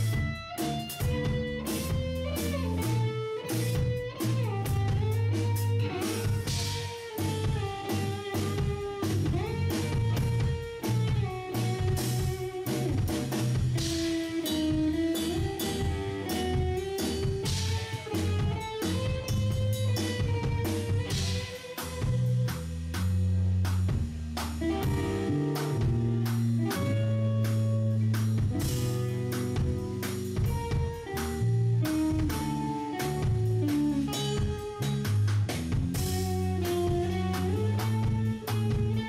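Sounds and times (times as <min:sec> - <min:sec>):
bass guitar: 0:00.0 - 0:39.0
drum kit: 0:00.0 - 0:39.0
electric guitar melody: 0:00.0 - 0:39.0.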